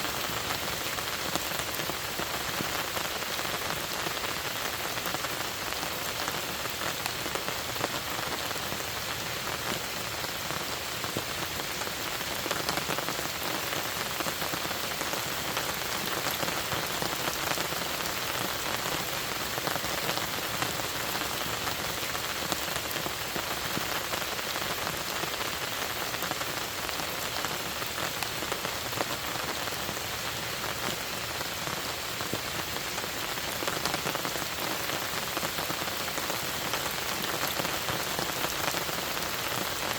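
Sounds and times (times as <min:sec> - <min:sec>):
rain falling on a lake: 0:00.0 - 0:39.9.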